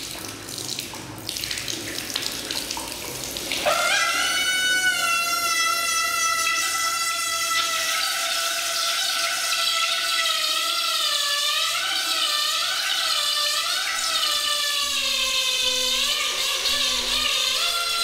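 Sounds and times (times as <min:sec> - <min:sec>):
running water: 0:00.0 - 0:18.0
water tap high whine: 0:00.0 - 0:18.0.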